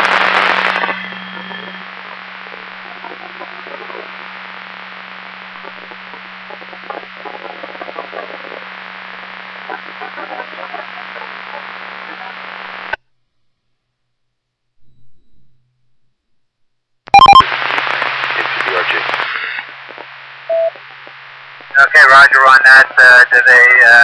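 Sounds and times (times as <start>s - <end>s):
radio receiver hiss: 0.0s - 13.0s, 17.1s - 24.0s
steady hum: 0.0s - 14.1s, 14.8s - 23.8s.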